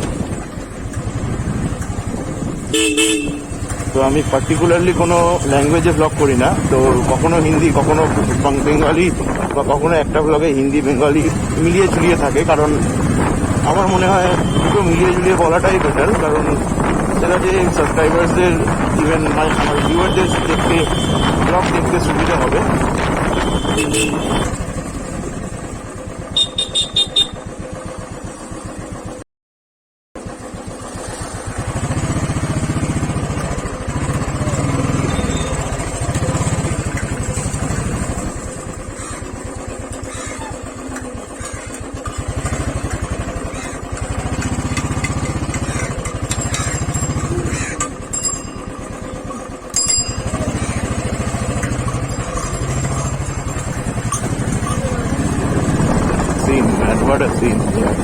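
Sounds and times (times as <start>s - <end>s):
motorcycle engine accelerating: 0.0s - 29.2s, 30.2s - 58.0s.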